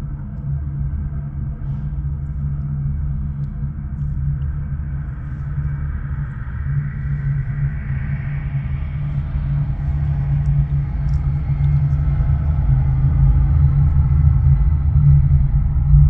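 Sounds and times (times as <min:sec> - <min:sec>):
jet engines deep rumble: 0:00.0 - 0:16.0.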